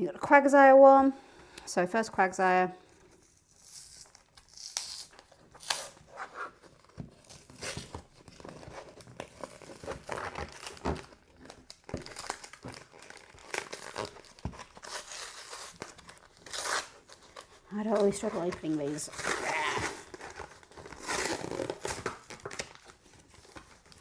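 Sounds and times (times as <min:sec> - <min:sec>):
plastic packaging crinkling and ripping: 0:02.9 - 0:24.0.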